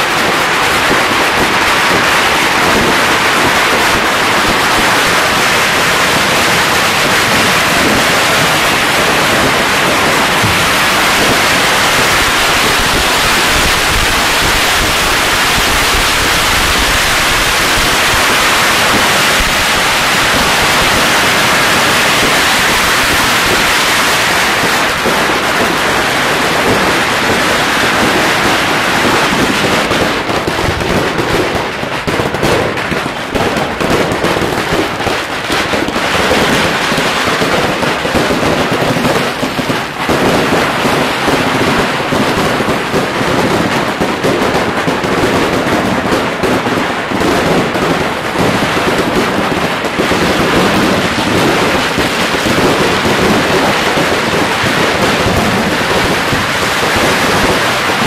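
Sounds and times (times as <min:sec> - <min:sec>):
firecrackers and fireworks exploding: 0:00.0 - 0:58.0.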